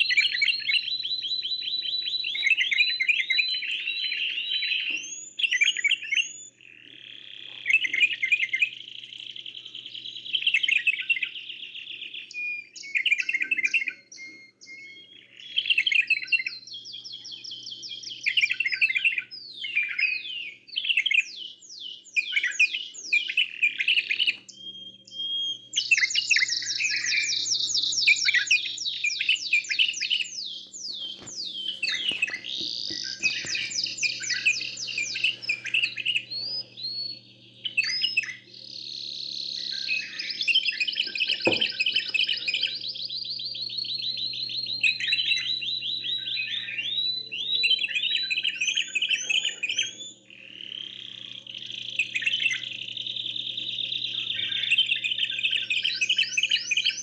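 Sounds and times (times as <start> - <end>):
faint steady hum: 0.0 - 57.0
songbirds trilling and chirping: 0.0 - 57.0.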